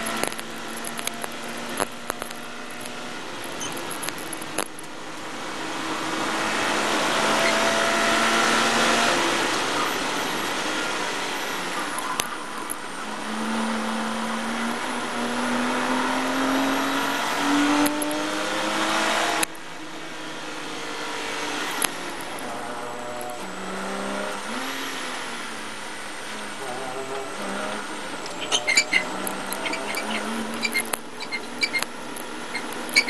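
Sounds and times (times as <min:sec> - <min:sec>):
race car engine: 0:00.0 - 0:33.0
road and wind noise: 0:00.0 - 0:33.0.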